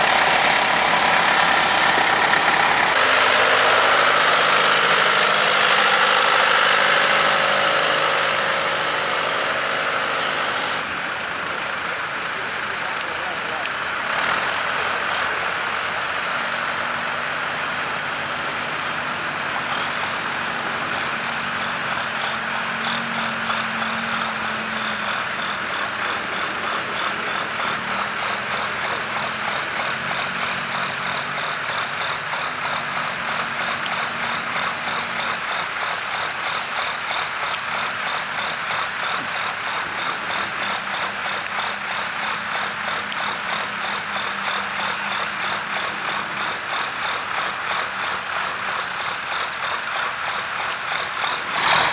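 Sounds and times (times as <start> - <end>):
tractor engine running under load: 0.0 - 51.9.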